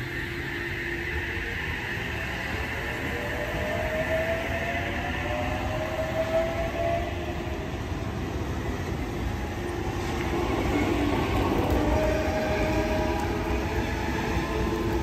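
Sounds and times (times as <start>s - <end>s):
train traction motors whining: 0.0s - 15.0s
wheels rumbling on rail: 0.0s - 15.0s.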